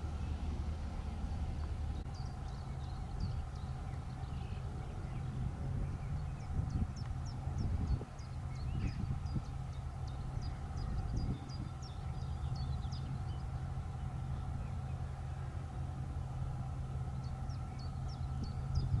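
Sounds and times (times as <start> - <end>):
faint hum: 0.0 - 19.0
low rumble: 0.0 - 19.0.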